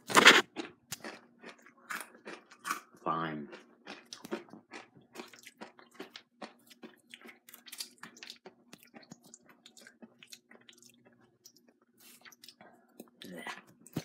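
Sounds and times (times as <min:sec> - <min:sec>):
chip crunching while chewed: 0:00.0 - 0:02.9, 0:03.5 - 0:12.6.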